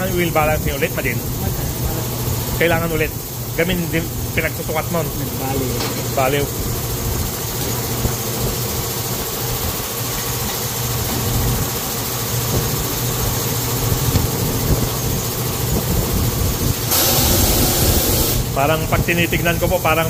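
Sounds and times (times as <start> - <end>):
motor humming: 0.0 - 19.9.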